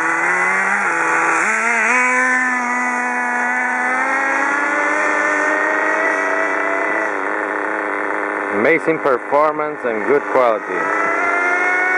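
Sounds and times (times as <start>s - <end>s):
rc car engine buzzing whine: 0.0s - 11.9s.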